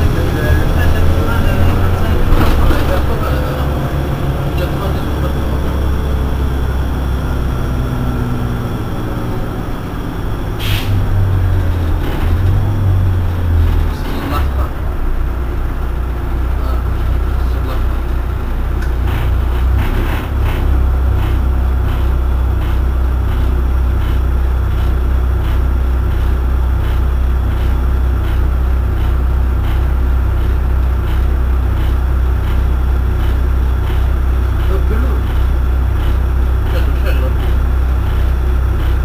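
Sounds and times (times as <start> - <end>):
bus engine idling: 0.0 - 39.0.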